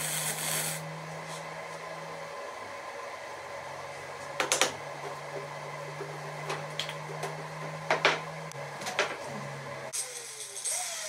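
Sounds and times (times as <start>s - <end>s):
low hum: 0.3s - 9.9s.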